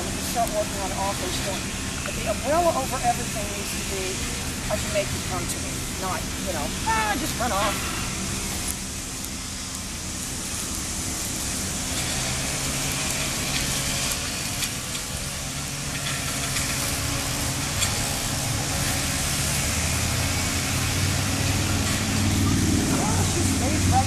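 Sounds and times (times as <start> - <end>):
even hiss: 0.0 - 24.0.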